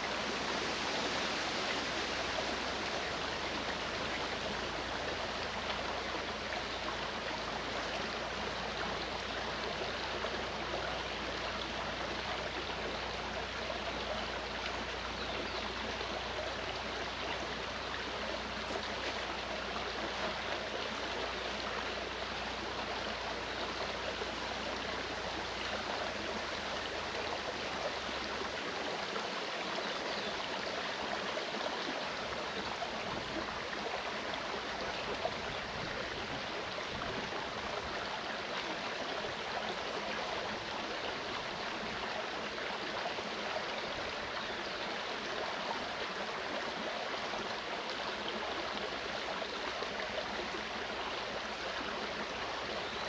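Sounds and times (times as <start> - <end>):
stream running over rocks: 0.0 - 53.0.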